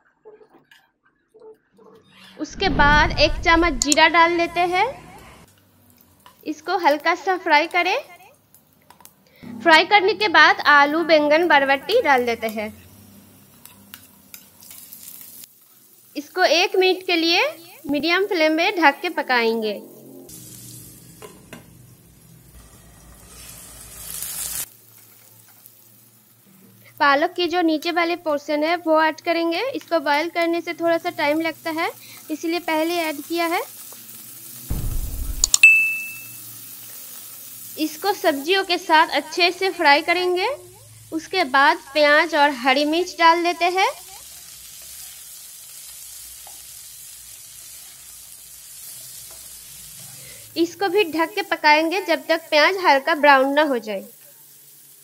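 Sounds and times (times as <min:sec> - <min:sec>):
vegetables sizzling in hot oil: 0:10.2 - 0:55.0.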